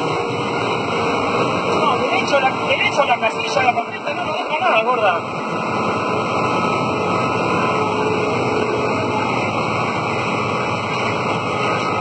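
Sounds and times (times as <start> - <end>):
loud rushing wind roar: 0.0 - 12.0.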